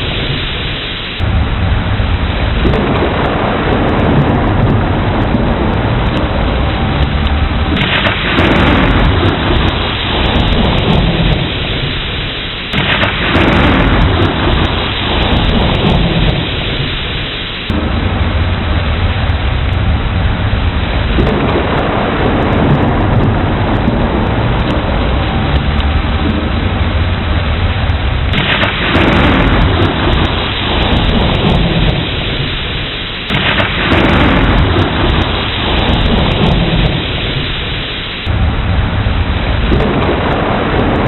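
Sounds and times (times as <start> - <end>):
deep rumbling thunder: 0.0 - 41.0
heavy rain pouring: 0.0 - 41.0.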